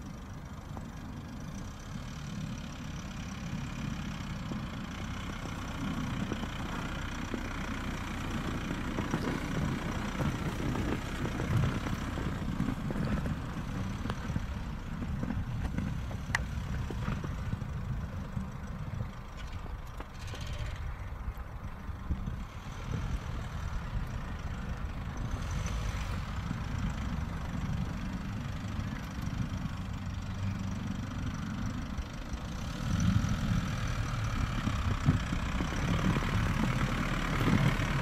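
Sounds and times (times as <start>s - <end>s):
motor vehicle rumble: 0.0s - 38.0s.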